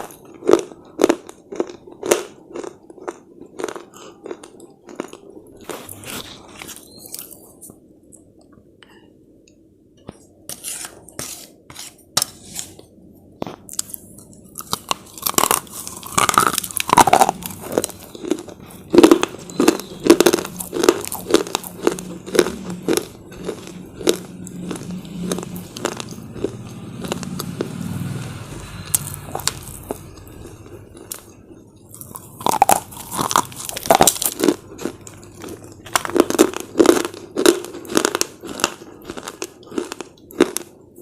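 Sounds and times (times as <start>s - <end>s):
slate chips being chewed: 0.0s - 7.4s, 13.4s - 28.1s, 28.8s - 40.8s.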